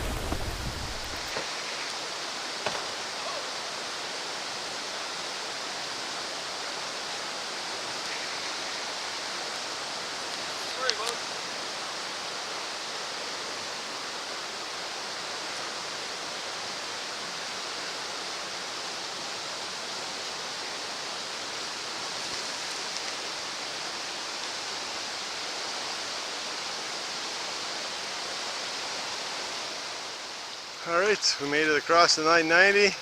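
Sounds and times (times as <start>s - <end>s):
river rapids rushing: 0.0s - 33.0s.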